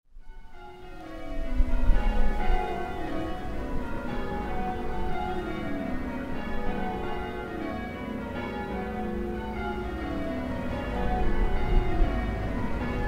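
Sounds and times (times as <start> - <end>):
church bells change ringing: 0.1 - 13.0.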